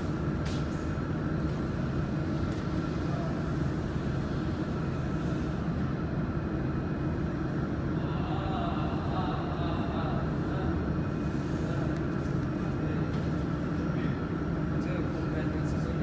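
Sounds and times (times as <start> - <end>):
low machine hum with hiss: 0.0 - 16.0.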